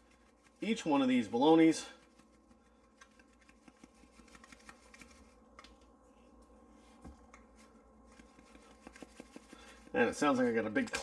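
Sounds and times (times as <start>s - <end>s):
seasoning pattering from plastic shaker: 0.0s - 5.6s, 7.4s - 10.8s.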